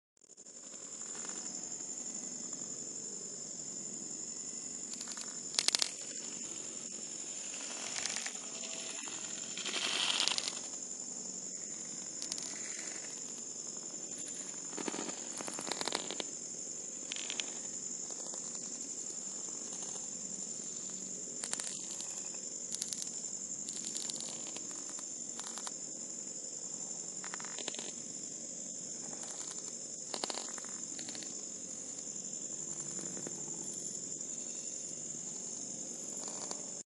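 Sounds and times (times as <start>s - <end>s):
crickets chirring: 0.3s - 36.9s.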